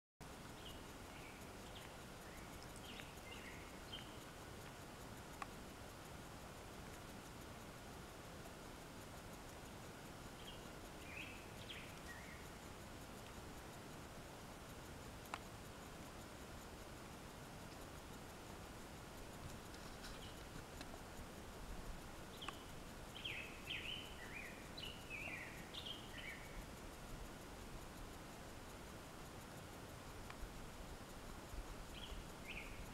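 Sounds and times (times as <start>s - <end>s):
faint outdoor hiss: 0.2s - 32.9s
small birds chirping: 0.3s - 7.8s, 9.2s - 32.9s.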